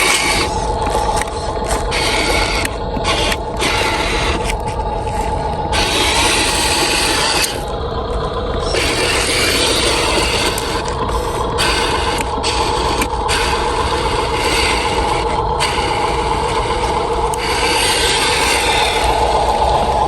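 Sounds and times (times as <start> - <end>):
rough scraping: 0.0 - 20.0
toy motors whining: 0.0 - 20.0.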